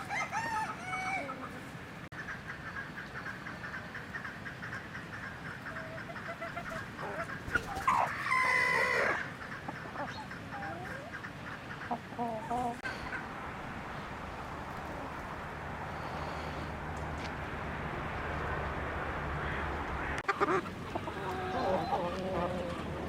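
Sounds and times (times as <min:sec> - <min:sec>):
chicken drawn-out call: 0:00.0 - 0:23.0
chickens clucking: 0:00.0 - 0:23.0.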